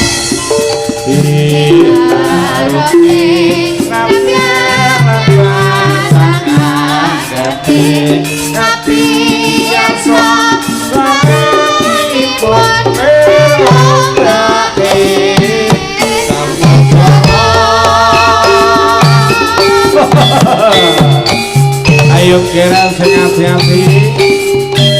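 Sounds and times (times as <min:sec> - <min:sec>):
drums: 0:00.0 - 0:24.9
pitched percussion: 0:00.0 - 0:24.9
wavering melody line: 0:00.0 - 0:24.9.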